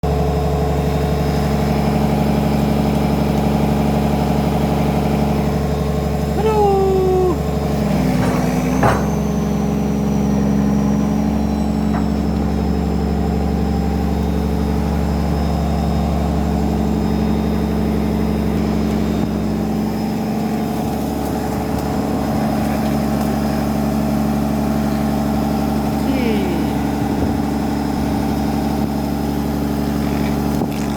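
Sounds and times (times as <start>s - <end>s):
excavator diesel engine idling: 0.0s - 30.9s.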